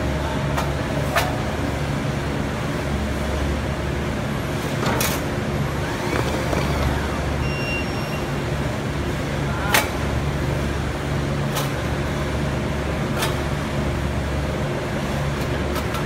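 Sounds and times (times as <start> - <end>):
packing machine humming: 0.0 - 16.0.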